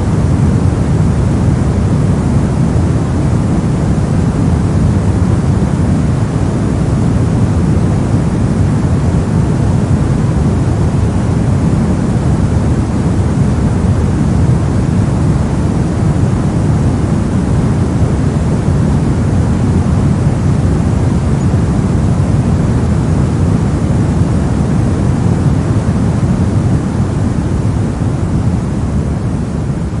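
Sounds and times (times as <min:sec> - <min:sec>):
brown noise: 0:00.0 - 0:30.0.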